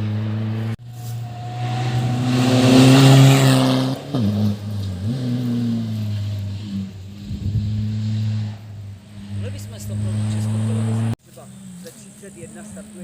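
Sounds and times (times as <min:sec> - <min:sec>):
rally car engine passing: 0:00.0 - 0:13.0.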